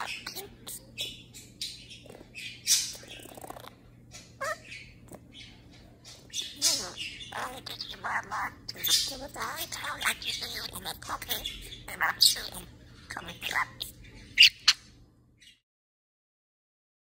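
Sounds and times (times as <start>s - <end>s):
budgerigar chattering: 0.0s - 5.5s, 6.3s - 14.9s.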